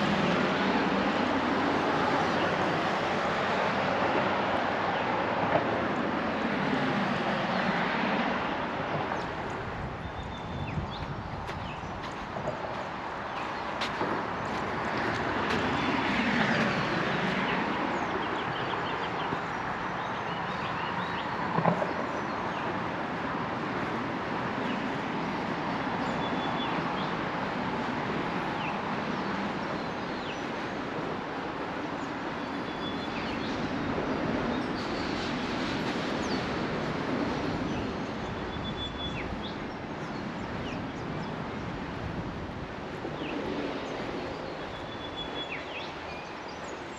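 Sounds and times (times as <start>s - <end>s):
vehicles passing: 0.0s - 46.9s.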